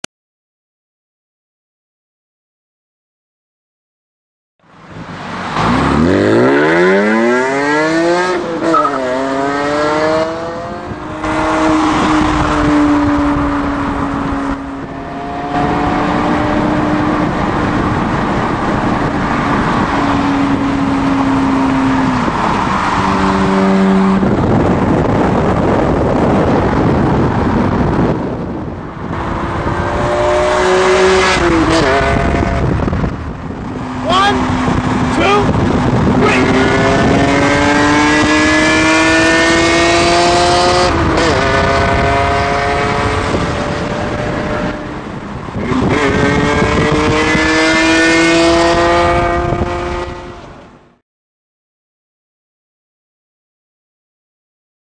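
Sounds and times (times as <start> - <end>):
car engine accelerating hard: 5.2 - 50.7.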